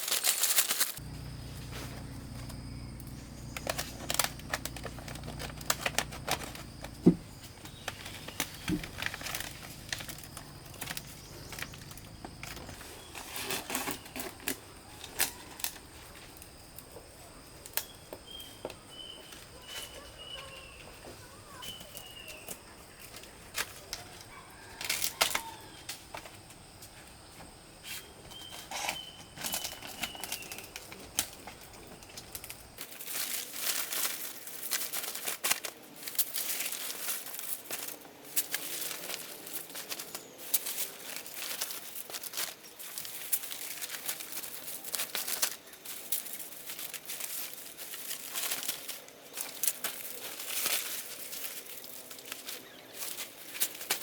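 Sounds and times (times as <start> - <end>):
rustling and crinkling: 0.0 - 54.0.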